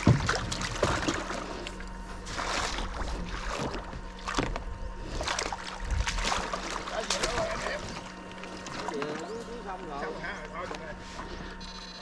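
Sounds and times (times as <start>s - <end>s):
water sloshing and splashing: 0.0s - 11.4s
faint steady hum: 0.0s - 12.0s.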